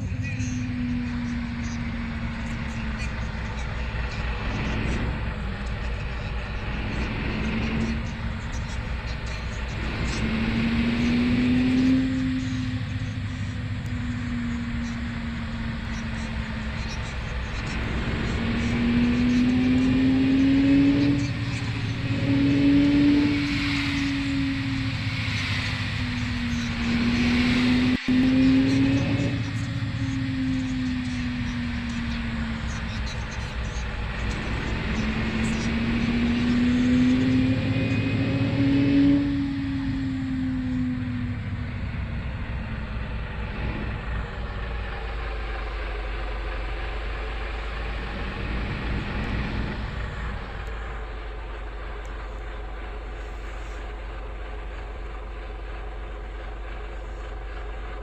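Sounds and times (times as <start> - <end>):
vehicle engine pulling uphill: 0.0 - 58.0.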